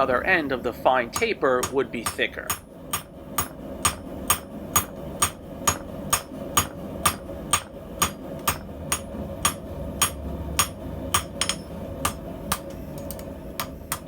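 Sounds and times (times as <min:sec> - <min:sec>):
hammer striking steel on anvil: 0:01.2 - 0:12.8, 0:13.6 - 0:14.0.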